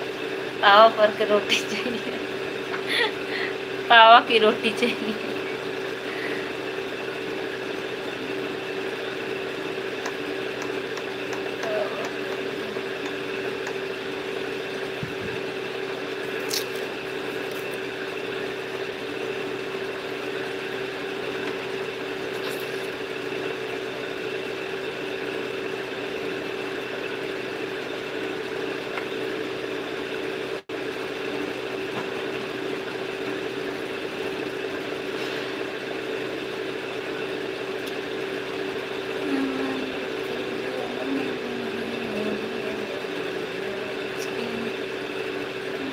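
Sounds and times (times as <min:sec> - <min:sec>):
steady motor hum: 0:00.0 - 0:45.9.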